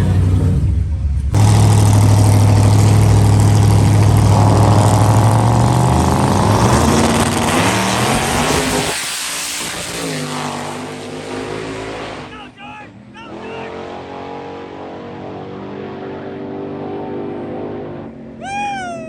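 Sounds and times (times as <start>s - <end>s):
race car engine at full throttle: 0.0s - 18.4s.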